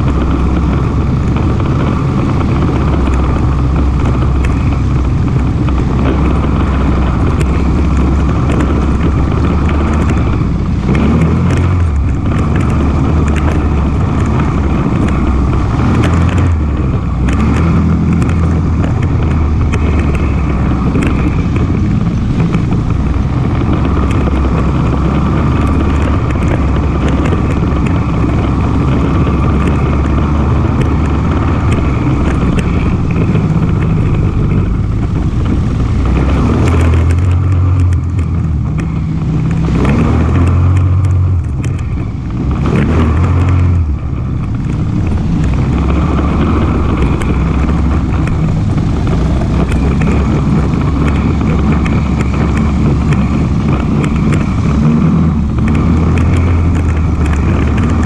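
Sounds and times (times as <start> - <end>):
atv engine running: 0.0 - 58.0
knocks and rattles: 0.0 - 58.0.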